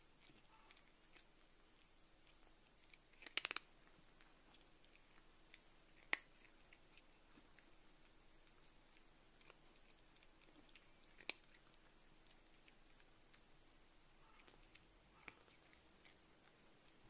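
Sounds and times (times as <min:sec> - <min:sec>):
cat crunching dry kibble: 0:00.1 - 0:17.0.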